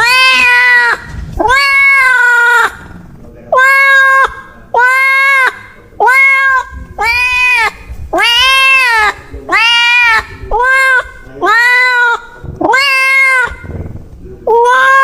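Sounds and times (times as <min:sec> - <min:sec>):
cat meowing loudly: 0:00.0 - 0:02.9, 0:03.5 - 0:13.8, 0:14.5 - 0:15.0.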